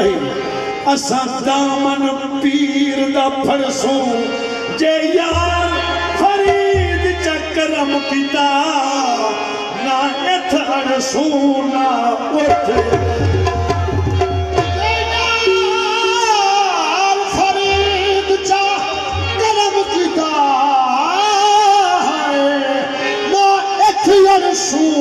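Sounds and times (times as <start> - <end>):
harmonium melody: 0.0 - 25.0.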